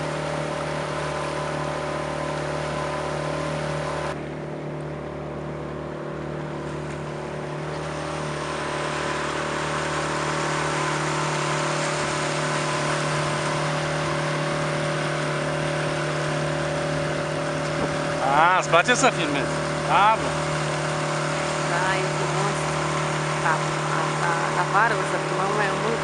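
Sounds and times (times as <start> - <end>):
outboard motor running: 0.0 - 26.0
water and wind rushing: 0.0 - 26.0.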